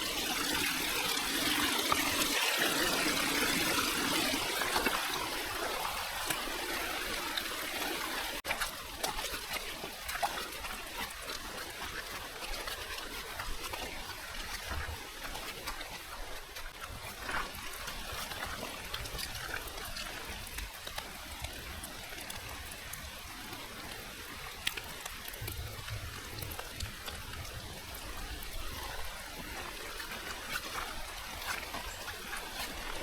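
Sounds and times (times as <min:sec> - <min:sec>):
rain on foliage: 0:00.0 - 0:33.0
water drips and patters: 0:00.0 - 0:33.0.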